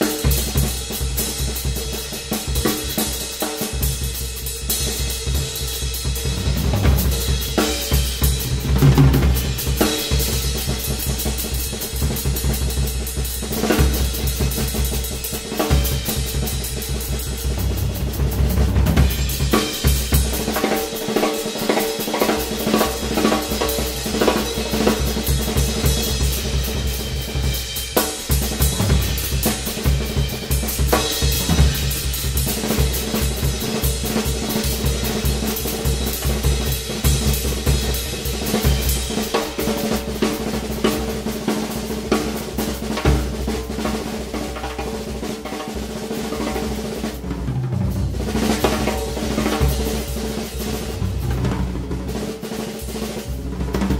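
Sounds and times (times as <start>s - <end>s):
drum solo: 0.0s - 53.9s.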